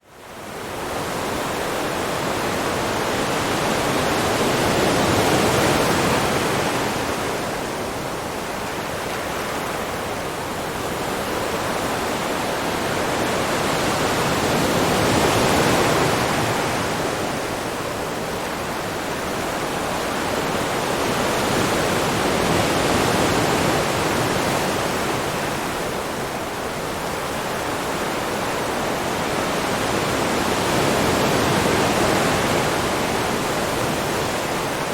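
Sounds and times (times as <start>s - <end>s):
sea water rushing: 0.5s - 34.9s.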